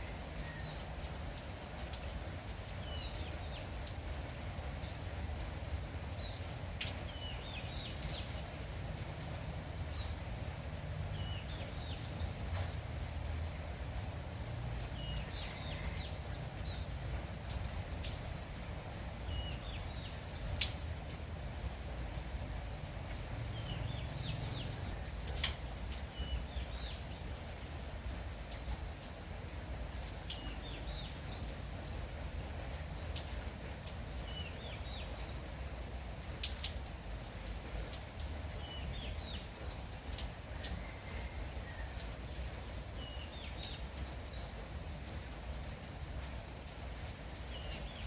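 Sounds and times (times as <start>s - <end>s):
light rain: 0.0s - 48.0s
sharp drips: 0.0s - 48.0s
small birds chirping: 0.0s - 48.0s.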